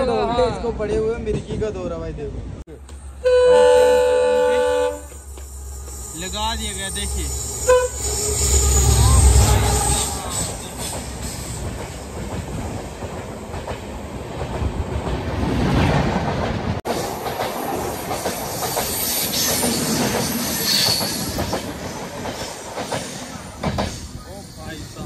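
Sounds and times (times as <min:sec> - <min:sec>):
train rattling: 0:00.7 - 0:25.0
passing train rushing: 0:02.3 - 0:25.0.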